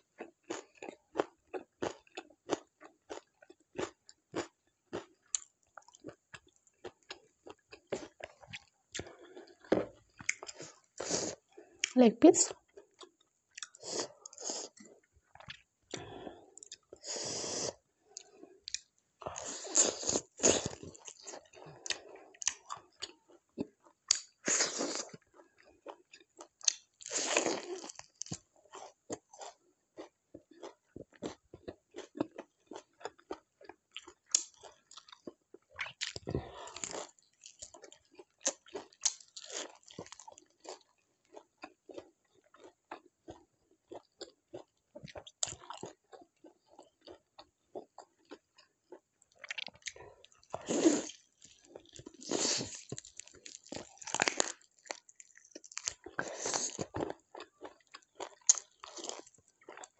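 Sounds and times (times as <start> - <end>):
person chewing and biting food: 0.2 - 12.0, 13.0 - 59.9.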